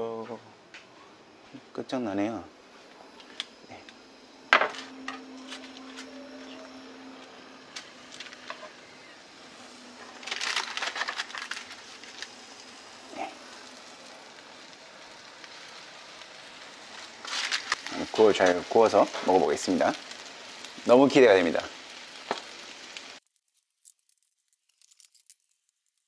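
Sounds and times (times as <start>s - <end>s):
faint steady hum: 0.0s - 23.2s
fish sizzling in hot pan: 3.3s - 26.0s.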